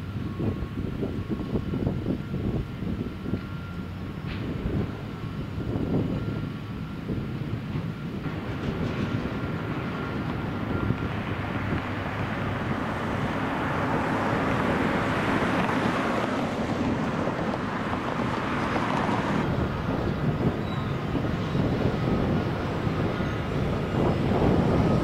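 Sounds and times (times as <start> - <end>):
construction machinery rumble: 0.0 - 25.0.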